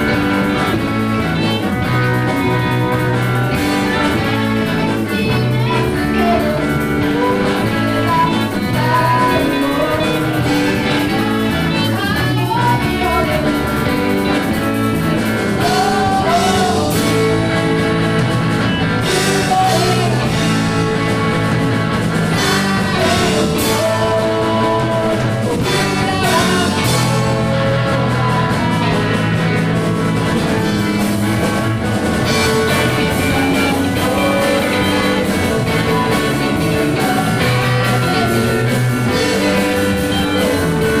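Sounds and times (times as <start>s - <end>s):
pitch-bending melody line: 0.0s - 41.0s
rock band playing: 0.0s - 41.0s.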